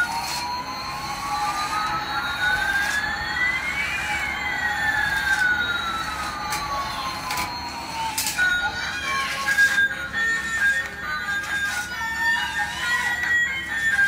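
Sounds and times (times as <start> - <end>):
fainter gliding tone: 0.0 - 14.0
toy siren-like tone: 0.0 - 14.0.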